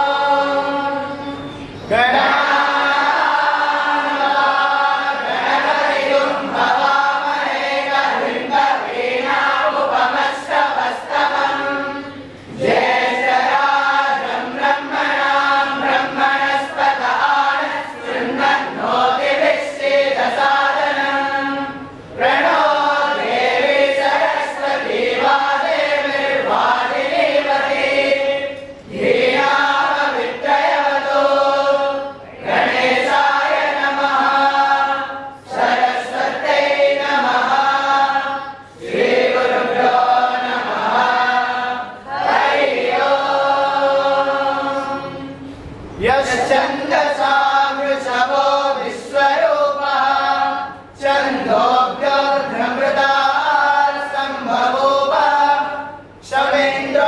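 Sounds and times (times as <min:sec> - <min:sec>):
boys chanting in unison: 0:00.0 - 0:01.2, 0:01.9 - 0:57.0.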